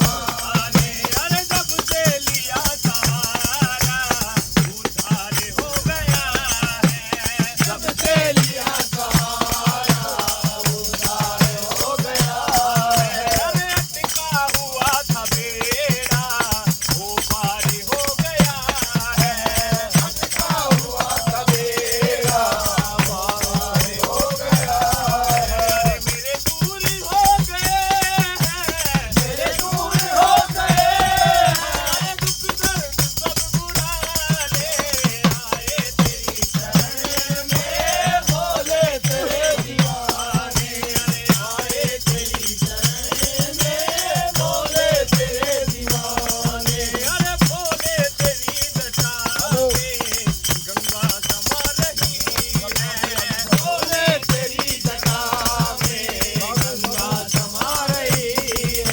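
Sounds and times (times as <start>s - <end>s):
fast percussion beat: 0.0s - 58.9s
group singing devotional song: 0.0s - 58.9s.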